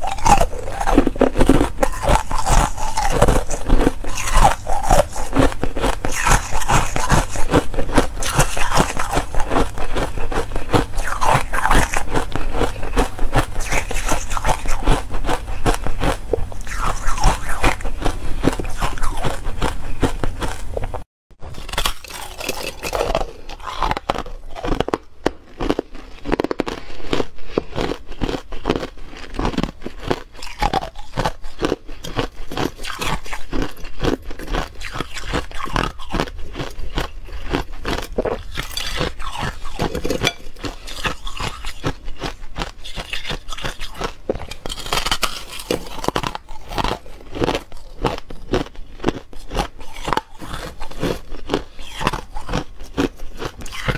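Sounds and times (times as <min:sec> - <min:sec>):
crunching ice: 0:00.0 - 0:53.9.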